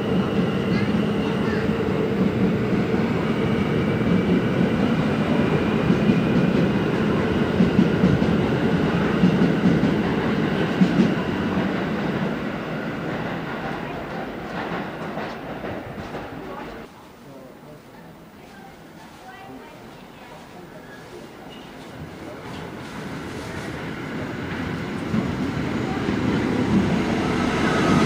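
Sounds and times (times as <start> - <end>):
subway wheels rumbling on rails: 0.0 - 16.9, 19.9 - 28.0.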